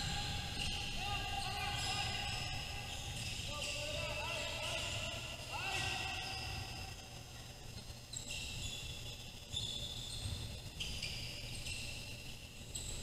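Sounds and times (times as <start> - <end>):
basketball shoes squeaking: 0.0 - 5.2, 6.2 - 13.0
low rumble of gym noise: 0.0 - 13.0.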